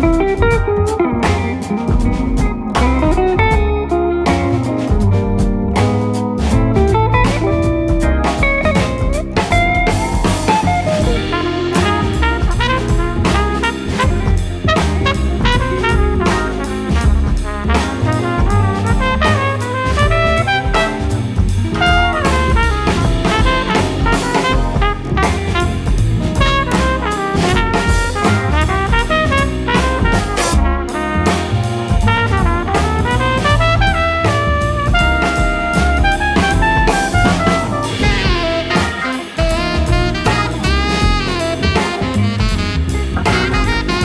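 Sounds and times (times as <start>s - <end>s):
jazz with brass and drums: 0.0s - 44.0s.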